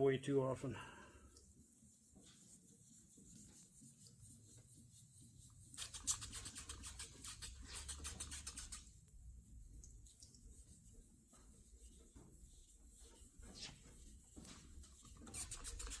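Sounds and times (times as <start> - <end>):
sandpaper rubbing on painted metal: 1.5 - 16.0.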